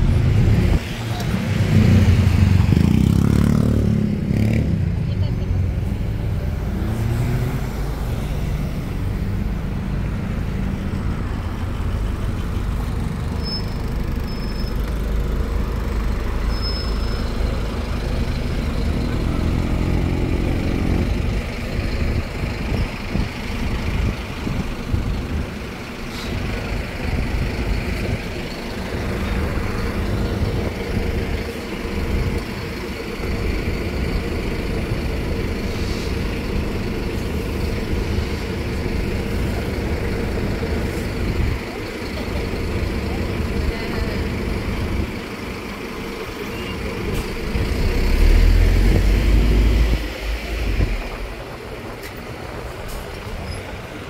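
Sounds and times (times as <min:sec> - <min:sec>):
bus engine running: 0:00.0 - 0:54.0
city traffic: 0:00.0 - 0:54.0.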